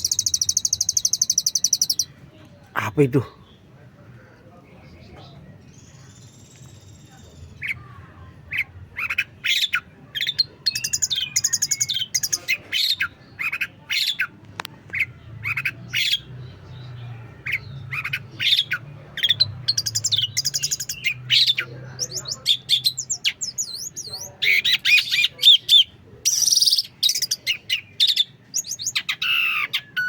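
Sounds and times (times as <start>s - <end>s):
bird singing chirps and squawks: 0.0s - 2.2s, 5.3s - 30.0s.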